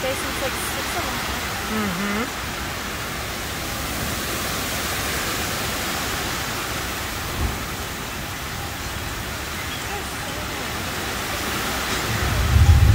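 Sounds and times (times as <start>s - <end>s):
heavy rain and wind: 0.0s - 12.9s.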